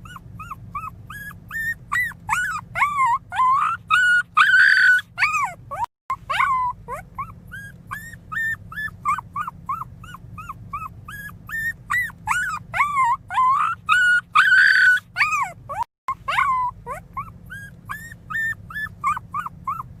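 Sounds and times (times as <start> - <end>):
puppy squeaking cries: 0.0 - 20.0
puppy wailing: 0.0 - 20.0.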